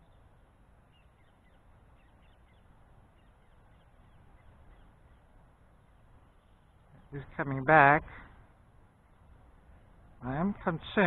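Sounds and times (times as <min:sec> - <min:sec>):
distant bird calls: 0:00.0 - 0:10.5
faint low rumble and hiss: 0:00.0 - 0:11.0.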